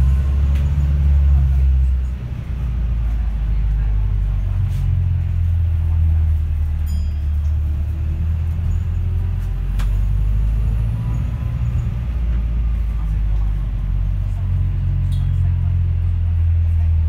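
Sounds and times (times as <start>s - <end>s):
bus cabin drone: 0.0s - 17.0s.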